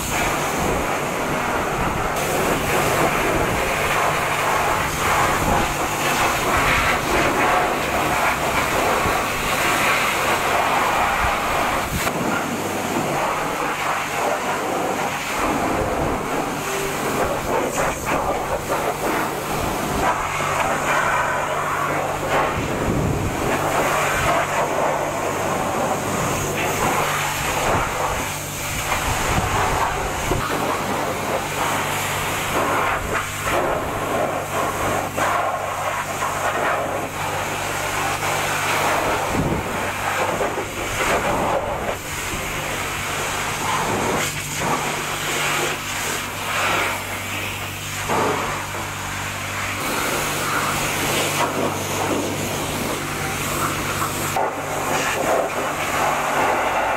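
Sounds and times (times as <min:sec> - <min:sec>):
pressure washer spraying water: 0:00.0 - 0:56.9
washer pump humming: 0:00.0 - 0:56.9.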